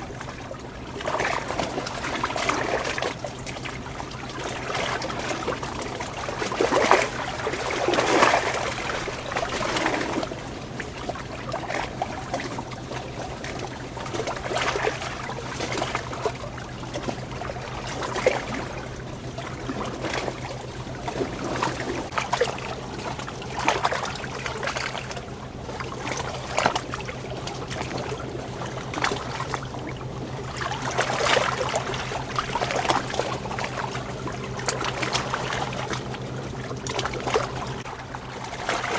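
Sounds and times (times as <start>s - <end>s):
steady low hum: 0.0s - 38.9s
stream trickling and splashing: 0.0s - 38.9s.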